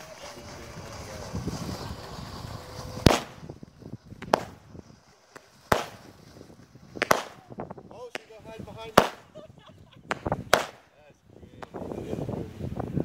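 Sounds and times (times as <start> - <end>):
firework pops: 0.0 - 9.4, 10.0 - 11.0, 11.6 - 11.9
firework bangs: 0.0 - 12.3.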